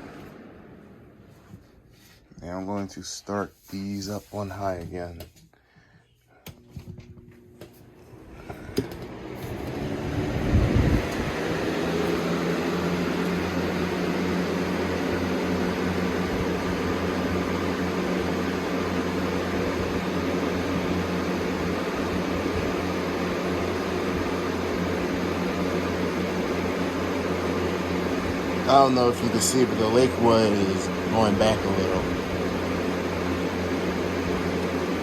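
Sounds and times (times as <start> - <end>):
box fans rushing air: 0.0 - 35.0
low motor hum: 6.4 - 35.0.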